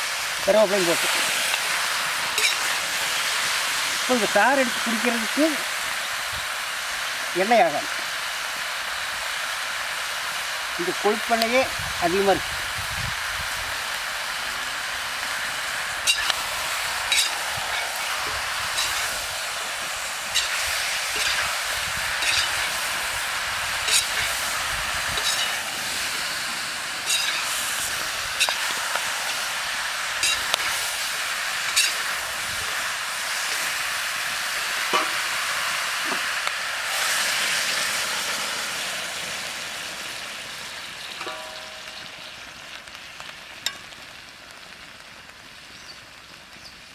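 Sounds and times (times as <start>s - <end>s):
chicken sizzling in a pot: 0.0s - 46.9s.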